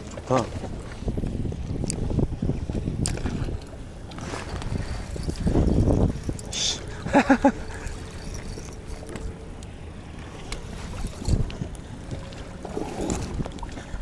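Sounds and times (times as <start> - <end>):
wind and water around hull: 0.0 - 14.0.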